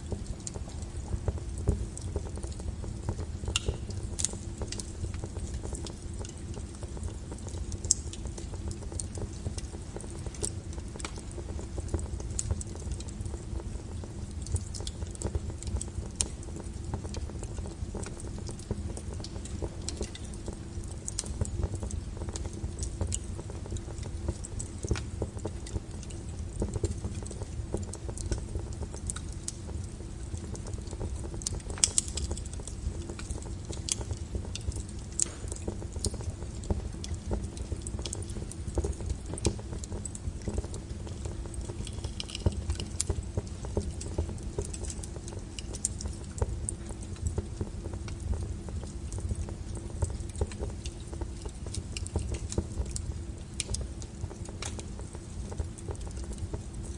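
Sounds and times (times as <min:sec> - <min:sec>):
fire crackling and popping: 0:00.0 - 0:56.9
fire flames rumbling: 0:00.0 - 0:56.9.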